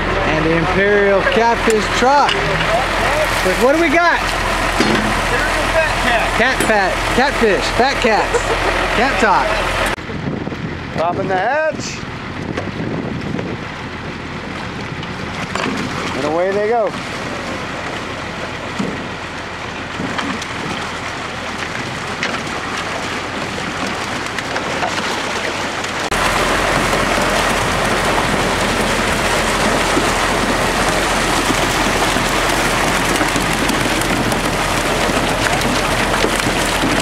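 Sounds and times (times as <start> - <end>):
water gushing down metal chute: 0.0 - 10.0, 14.6 - 37.0
water splashing: 0.0 - 10.0, 13.8 - 37.0.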